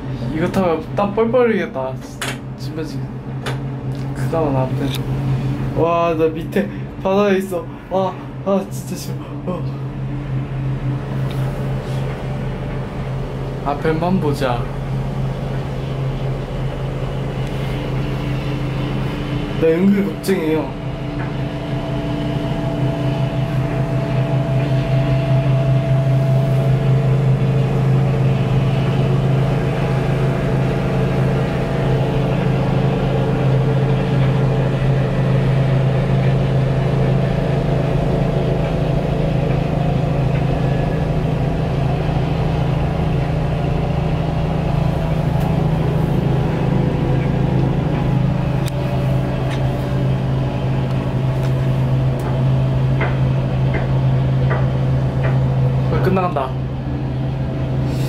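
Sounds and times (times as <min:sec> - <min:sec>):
cable car running hum: 0:00.0 - 0:58.0
constant whining tones: 0:00.0 - 0:58.0.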